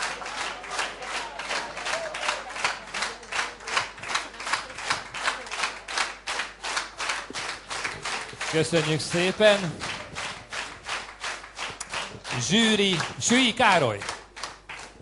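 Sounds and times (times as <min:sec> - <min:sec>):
audience clapping in rhythm: 0:00.0 - 0:15.0.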